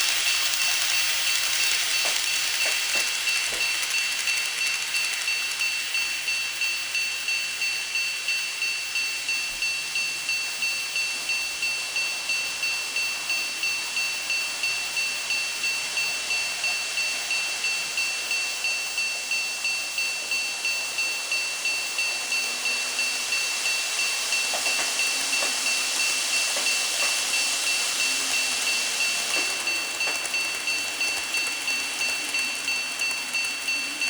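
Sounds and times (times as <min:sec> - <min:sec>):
level crossing bell: 0:00.0 - 0:34.0.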